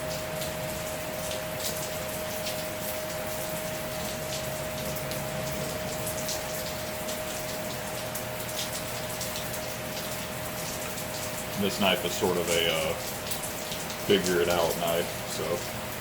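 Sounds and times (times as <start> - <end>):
heavy rain pattering: 0.0 - 16.0.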